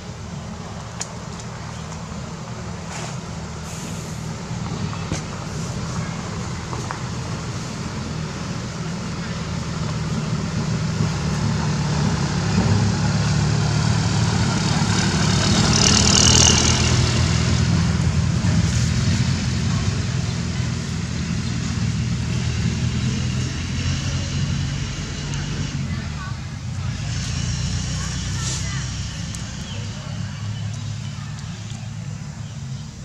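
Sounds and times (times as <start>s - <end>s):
vehicle engine droning: 0.0s - 33.0s.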